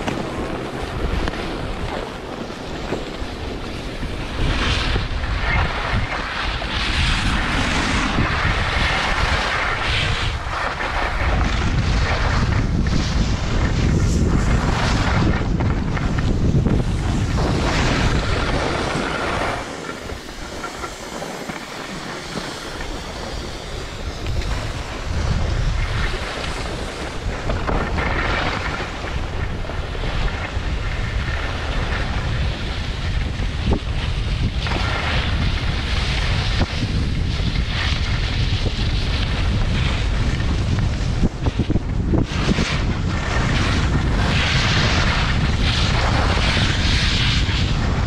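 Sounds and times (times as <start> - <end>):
skis scraping on snow: 0.0 - 48.0
wind buffeting microphone: 0.0 - 48.0.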